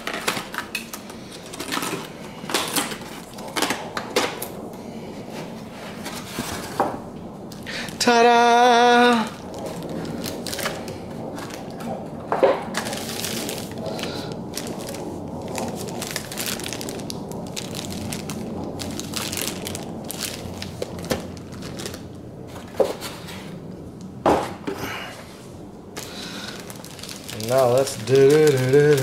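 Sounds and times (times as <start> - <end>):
plastic bag crinkling: 0.0 - 4.6, 7.5 - 23.5, 26.0 - 29.0.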